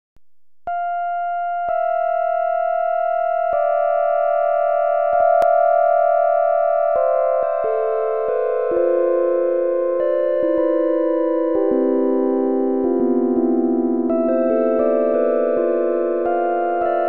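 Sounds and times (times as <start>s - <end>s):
slow synthesizer music: 0.7s - 17.0s.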